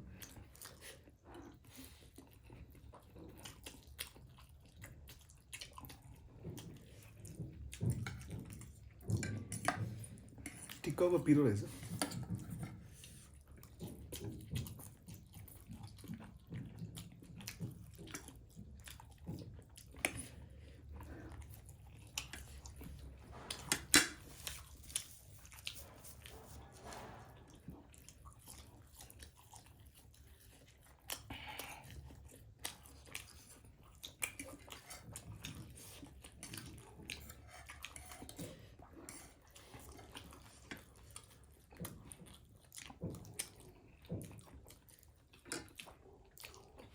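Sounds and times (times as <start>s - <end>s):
wet chewing sounds: 0.0s - 46.9s.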